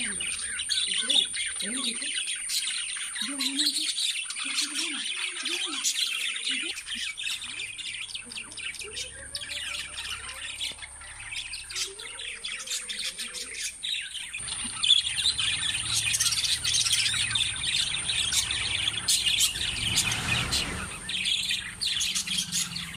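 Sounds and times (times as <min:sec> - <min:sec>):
budgerigars chirping and chattering: 0:00.0 - 0:22.9.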